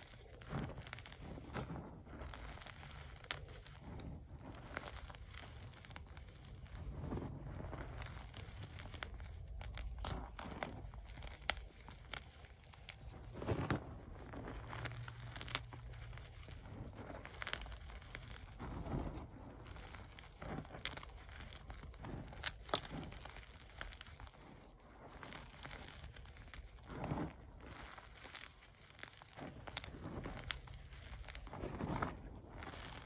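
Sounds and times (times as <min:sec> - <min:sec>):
hands crushing chalk: 0:00.0 - 0:33.0.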